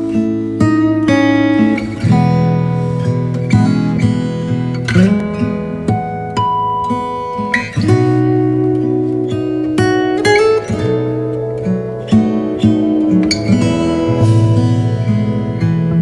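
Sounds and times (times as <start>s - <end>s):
acoustic guitar plucked and strummed: 0.0s - 16.0s.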